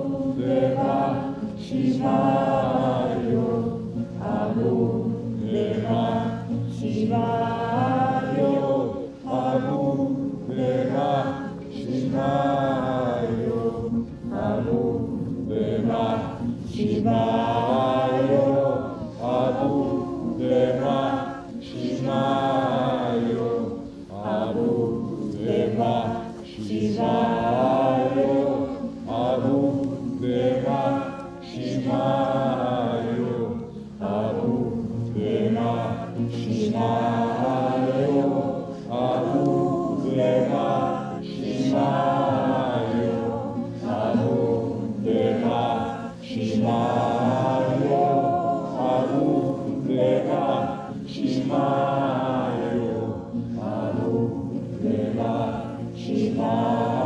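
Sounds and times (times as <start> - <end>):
group chanting: 0.0 - 57.0.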